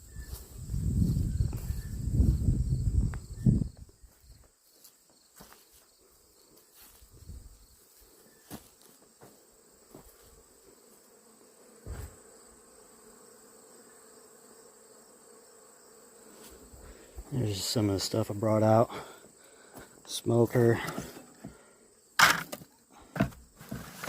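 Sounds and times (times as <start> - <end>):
insect chorus trilling: 0.0 - 23.6.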